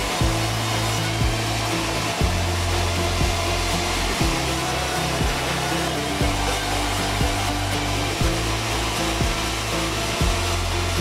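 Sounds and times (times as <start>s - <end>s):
band saw whirring drone: 0.0s - 11.0s.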